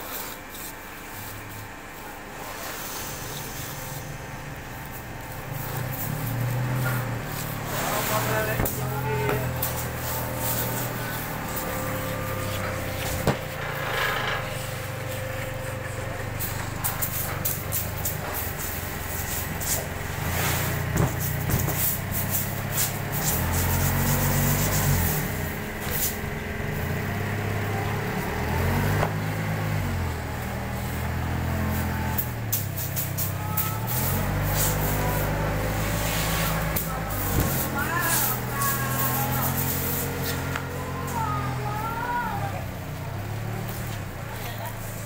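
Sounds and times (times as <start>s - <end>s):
forklift engine revving: 0.0s - 45.0s.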